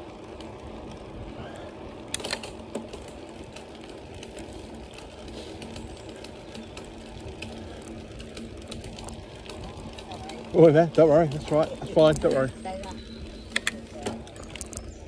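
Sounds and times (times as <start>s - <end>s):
bicycle mechanical whirr: 0.0s - 15.0s
sharp bicycle clicks: 0.1s - 15.0s.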